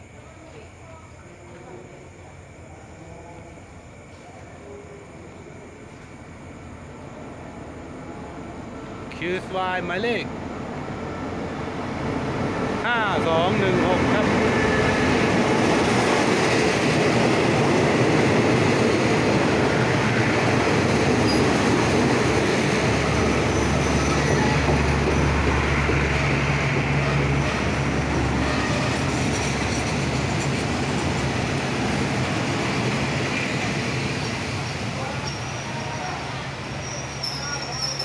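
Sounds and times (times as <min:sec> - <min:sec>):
train wheels rushing on rail: 0:00.0 - 0:38.0.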